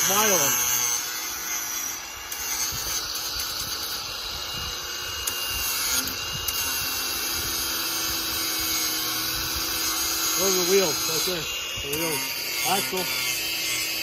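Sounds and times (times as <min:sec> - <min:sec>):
angle grinder grinding steel: 0:00.0 - 0:14.0.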